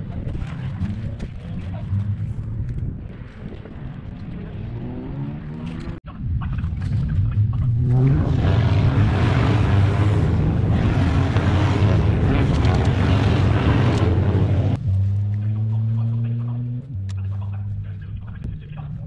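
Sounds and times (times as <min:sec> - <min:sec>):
racing car engines droning: 0:00.0 - 0:19.0
wind noise: 0:00.0 - 0:19.0.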